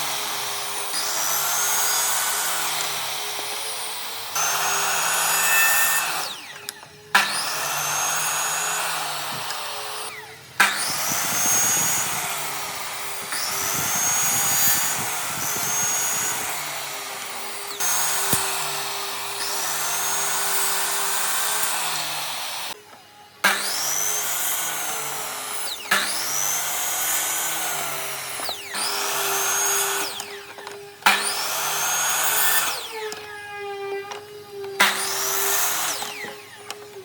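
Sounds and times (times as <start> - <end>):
power tool motor whining: 0.0 - 37.0.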